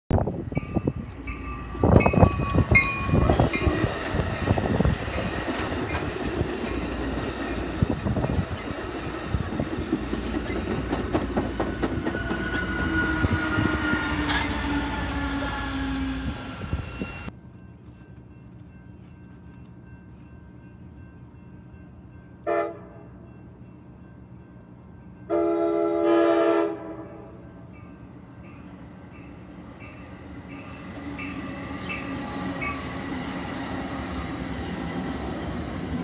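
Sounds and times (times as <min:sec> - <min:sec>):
passenger train rumbling past: 0:00.2 - 0:17.4, 0:19.8 - 0:36.0.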